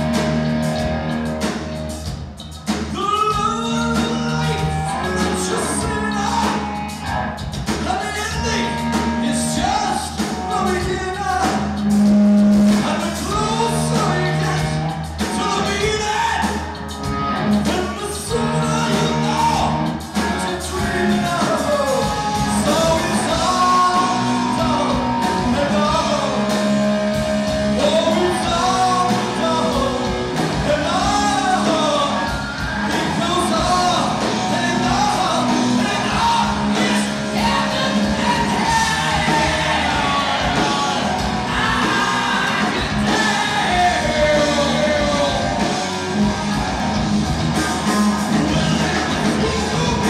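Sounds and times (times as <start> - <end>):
heavy metal band playing: 0.0 - 50.0.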